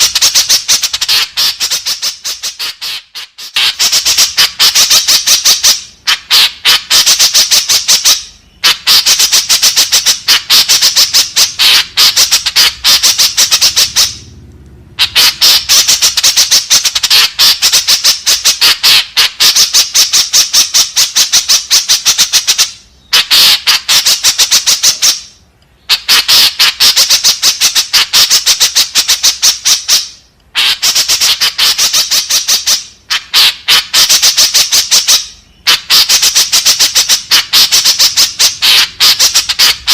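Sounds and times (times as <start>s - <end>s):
bird squawking calls: 0.0s - 14.2s, 15.0s - 39.9s.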